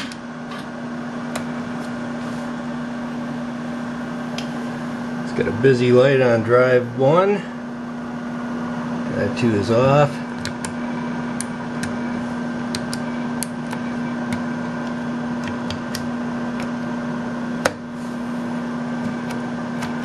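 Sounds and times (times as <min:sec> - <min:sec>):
computer fan and drives humming: 0:00.0 - 0:20.0.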